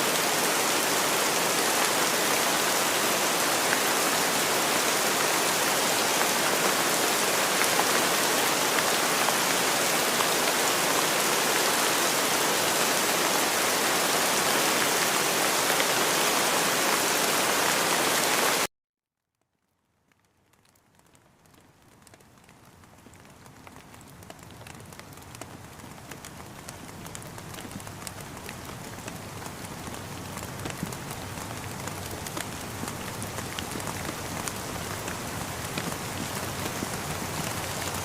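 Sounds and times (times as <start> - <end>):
rain hiss: 0.0 - 18.7, 23.2 - 38.0.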